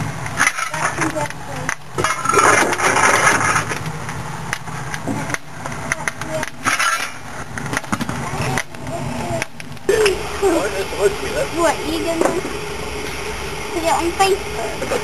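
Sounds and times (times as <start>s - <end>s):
coal fire rushing: 0.0s - 15.0s.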